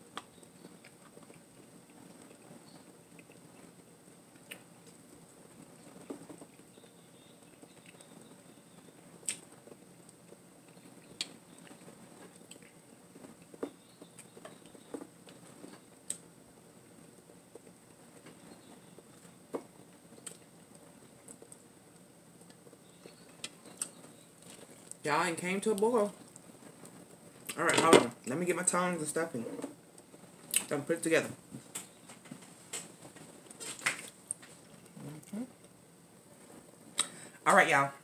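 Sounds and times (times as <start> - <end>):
chewing and crunching food: 0.0 - 27.6, 29.8 - 30.7, 31.6 - 37.2
low steady background noise: 0.0 - 38.0.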